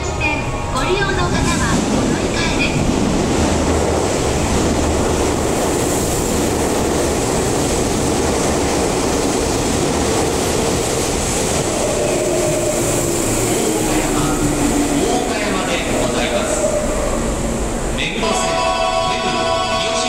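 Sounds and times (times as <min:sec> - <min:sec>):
train equipment humming: 0:00.0 - 0:20.0.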